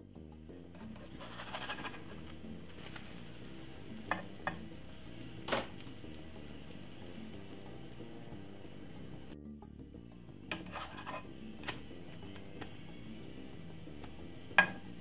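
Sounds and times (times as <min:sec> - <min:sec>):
pancake sizzling in pan: 0:00.5 - 0:09.4, 0:10.3 - 0:15.0.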